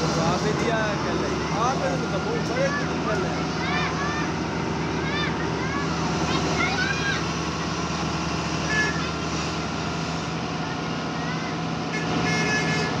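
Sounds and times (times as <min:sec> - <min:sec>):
diesel engine humming: 0:00.0 - 0:13.0
distant voices: 0:00.0 - 0:13.0.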